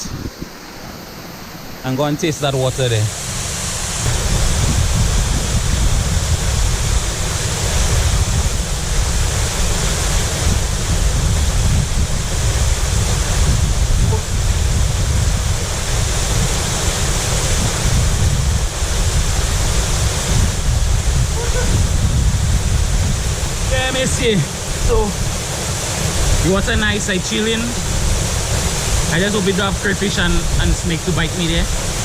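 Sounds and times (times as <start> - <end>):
wind buffeting microphone: 0.0 - 0.7, 3.8 - 32.0
waterfall rushing: 0.6 - 32.0.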